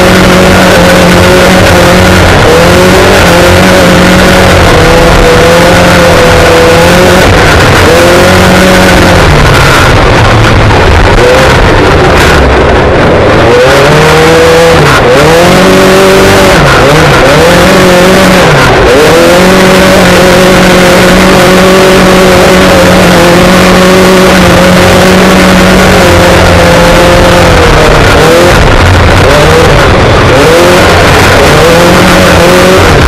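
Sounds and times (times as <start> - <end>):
constant rushing noise: 0.0 - 33.0
race car engine revving: 0.0 - 33.0.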